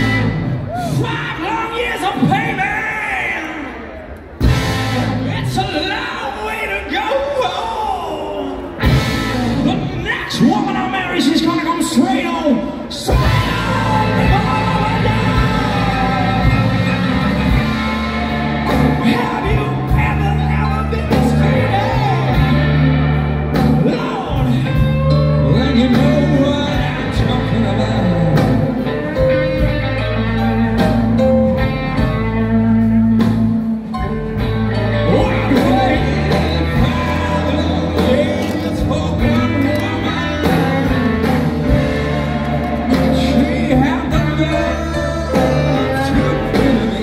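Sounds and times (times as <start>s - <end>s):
live blues-rock band: 0.0s - 6.9s, 7.8s - 47.0s.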